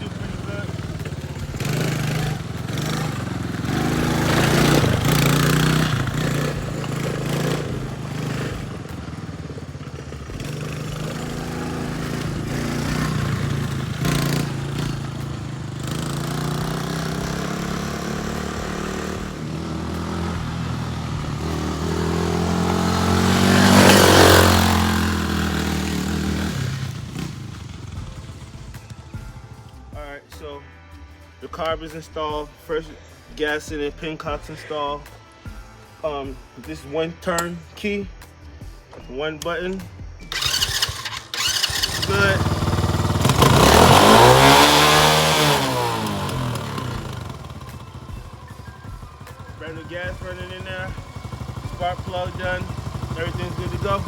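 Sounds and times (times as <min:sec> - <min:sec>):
atv engine revving: 0:00.0 - 0:30.2, 0:40.3 - 0:54.0.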